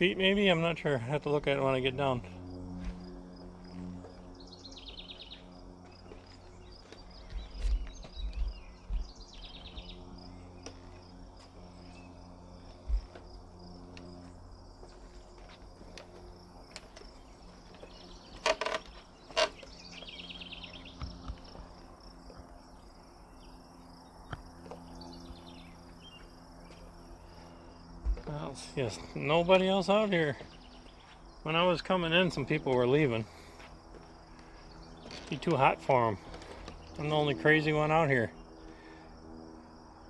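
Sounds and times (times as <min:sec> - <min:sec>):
insects chirring: 0:00.0 - 0:40.0
songbirds calling: 0:00.0 - 0:40.0.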